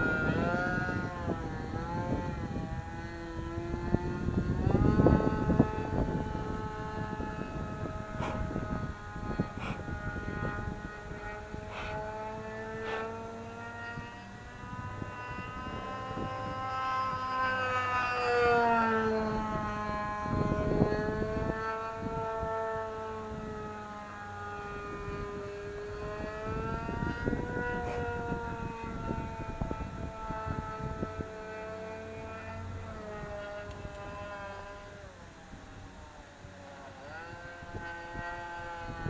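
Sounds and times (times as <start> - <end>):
model plane engine buzzing: 0.0 - 39.0.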